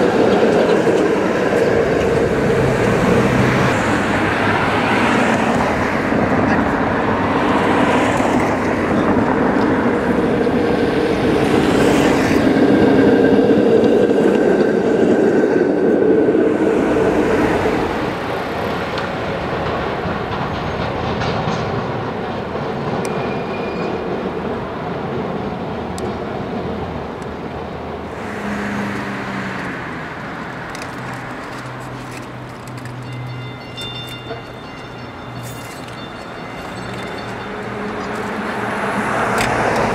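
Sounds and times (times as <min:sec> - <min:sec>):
street traffic: 0:00.0 - 0:39.9
streetcar running on rails: 0:00.0 - 0:39.9.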